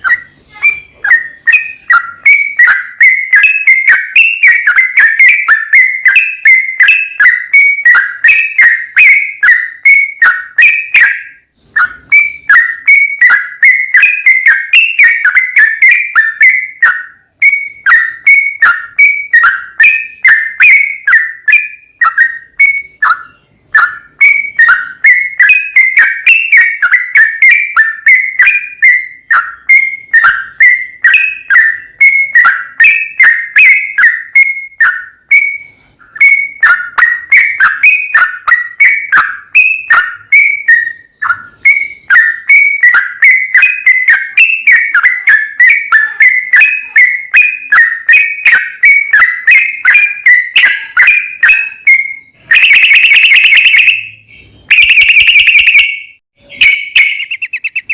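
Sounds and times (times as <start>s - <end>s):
bulbul whistled song: 0.0s - 57.9s
harsh steady tone: 0.0s - 57.9s.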